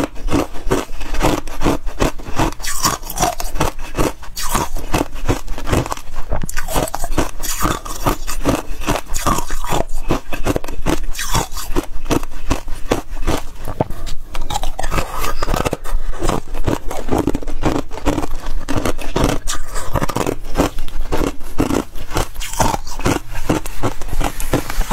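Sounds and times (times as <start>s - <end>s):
frost crunching being chewed: 0.0s - 24.9s.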